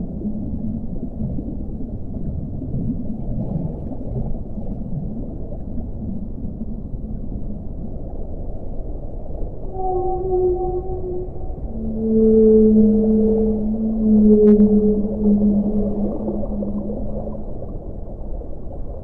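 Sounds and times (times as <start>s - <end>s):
muffled underwater water rumble: 0.0s - 19.0s.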